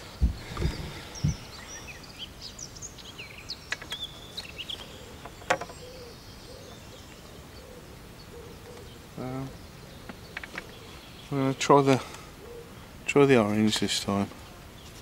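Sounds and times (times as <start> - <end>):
outdoor background noise: 0.0 - 15.0
small birds chirping: 0.0 - 15.0.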